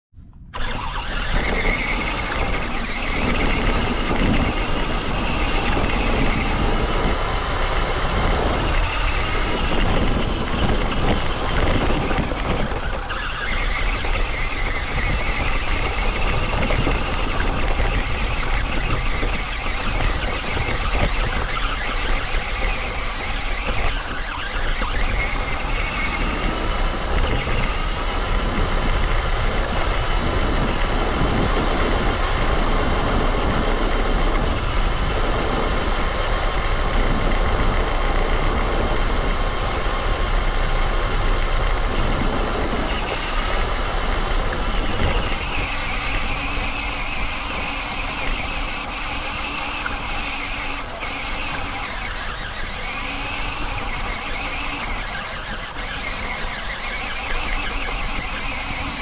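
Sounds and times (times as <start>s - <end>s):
toy car motor whining: 0.5s - 59.0s.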